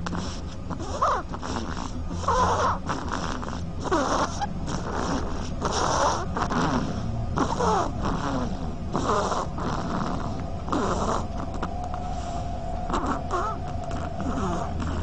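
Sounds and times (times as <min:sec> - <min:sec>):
duckling snoring squeaks: 0:00.0 - 0:15.0
steady low hum: 0:00.0 - 0:15.0.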